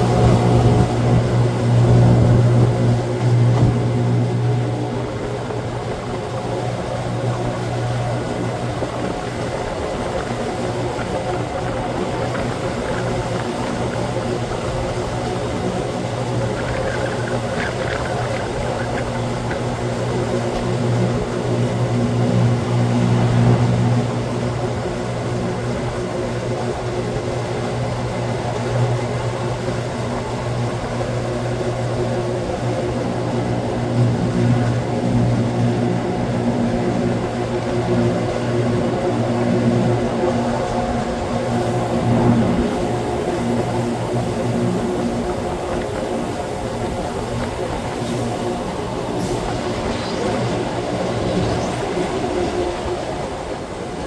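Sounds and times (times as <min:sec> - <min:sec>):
electric train motor hum: 0:00.0 - 0:54.0.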